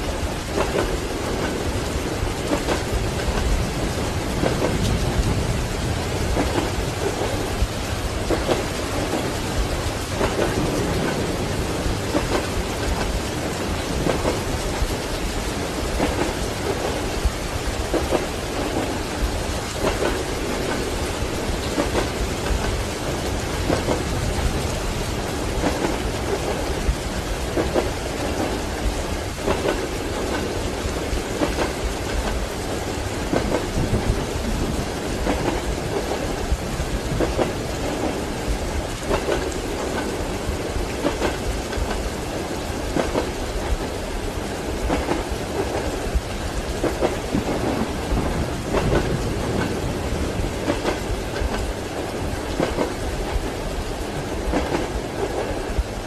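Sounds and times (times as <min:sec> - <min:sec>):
thunder: 0:00.0 - 0:41.9, 0:44.8 - 0:53.6
steady rain: 0:00.0 - 0:56.0
train wheels clacking on rails: 0:00.0 - 0:56.0.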